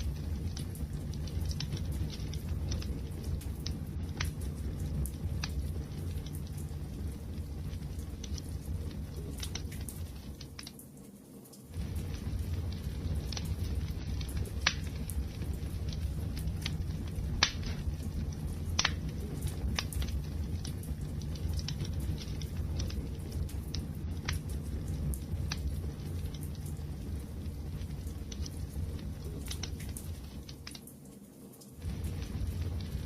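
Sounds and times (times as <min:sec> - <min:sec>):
low rumble of fire: 0:00.0 - 0:33.0
wood fire crackling: 0:00.0 - 0:33.0.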